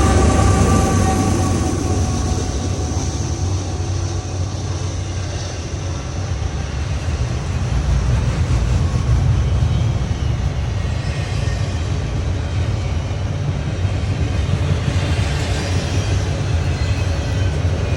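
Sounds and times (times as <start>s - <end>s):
freight train rumbling past: 0.0s - 17.9s.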